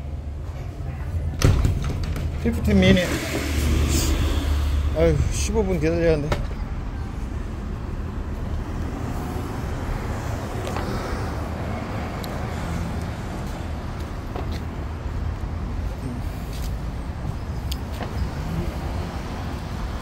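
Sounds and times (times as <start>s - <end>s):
city traffic rumble: 0.0s - 20.0s.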